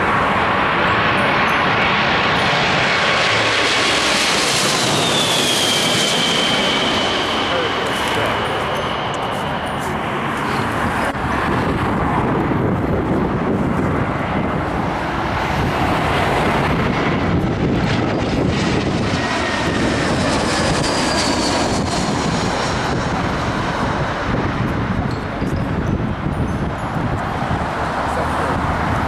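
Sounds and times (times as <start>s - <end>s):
jet engine rush: 0.0s - 29.0s
jet engine whine: 0.0s - 29.0s.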